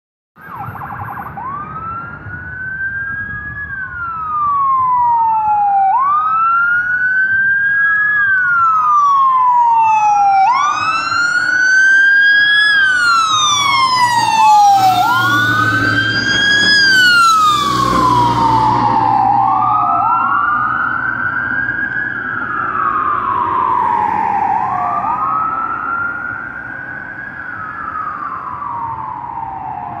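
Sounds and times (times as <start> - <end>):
fire truck siren wailing: 0.4 - 30.0
second siren wailing: 0.4 - 30.0
fire engine rumble: 0.9 - 30.0.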